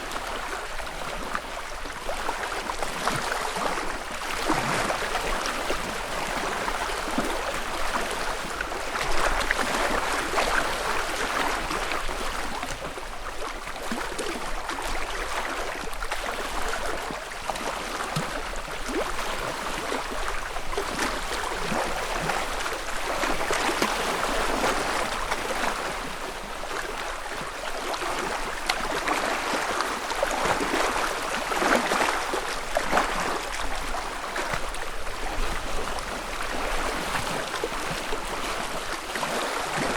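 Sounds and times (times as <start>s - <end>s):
ripples lapping against shore: 0.0s - 39.9s.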